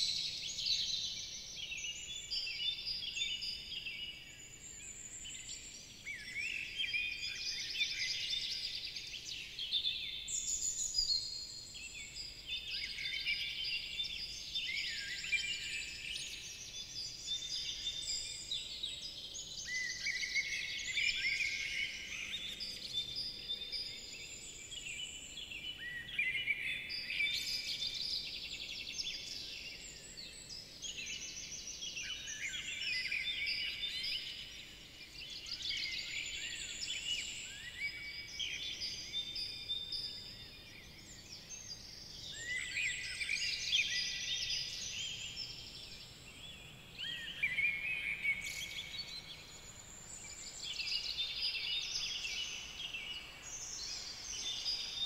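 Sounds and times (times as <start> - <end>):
songbirds chorus: 0.0 - 55.0.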